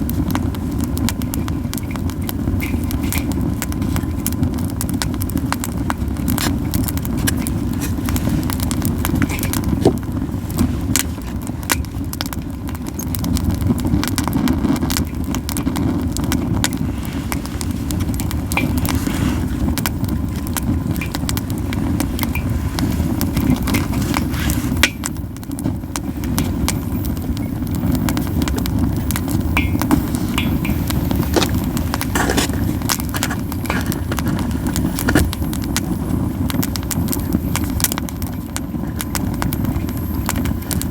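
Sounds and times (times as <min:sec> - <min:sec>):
campfire crackling and popping: 0:00.0 - 0:40.9
low fire rumble: 0:00.0 - 0:40.9.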